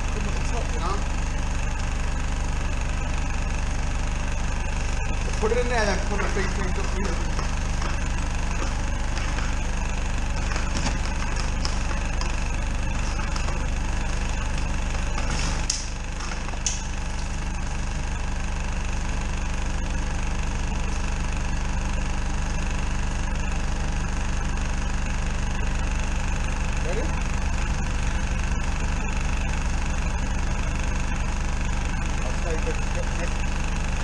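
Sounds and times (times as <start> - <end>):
machine engine running: 0.0 - 34.0.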